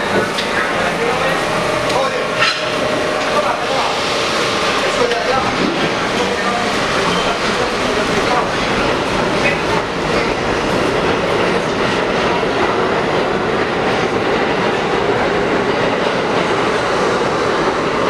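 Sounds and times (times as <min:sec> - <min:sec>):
wheels clicking over rail joints: 0:00.0 - 0:15.4
subway train rumble: 0:00.0 - 0:18.0.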